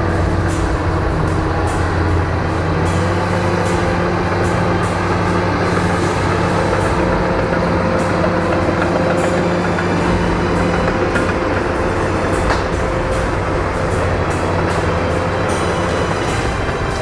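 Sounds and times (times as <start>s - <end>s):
bulldozer diesel engine: 0.0s - 17.0s
steel tracks clanking: 0.0s - 17.0s.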